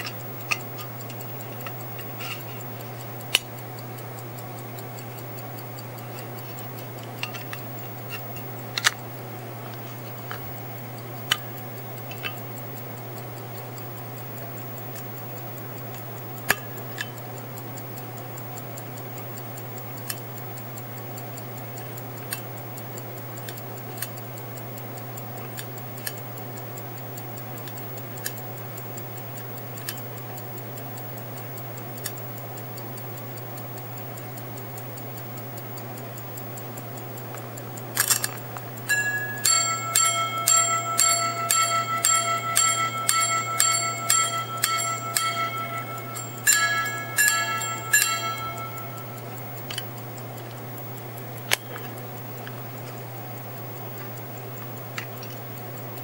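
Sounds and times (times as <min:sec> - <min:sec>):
pocket watch ticking: 0:00.0 - 0:56.0.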